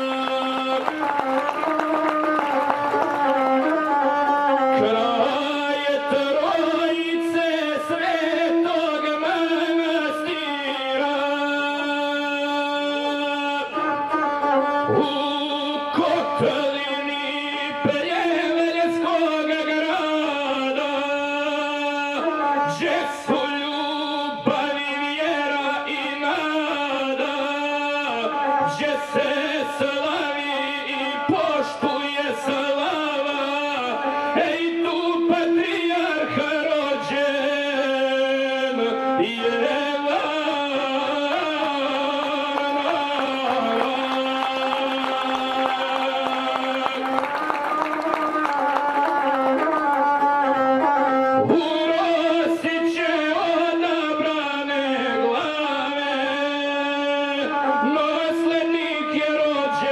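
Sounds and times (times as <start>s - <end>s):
man singing epic verse: 0.0s - 2.0s, 2.9s - 47.3s, 51.4s - 59.9s
bowed one-string fiddle: 0.0s - 59.9s.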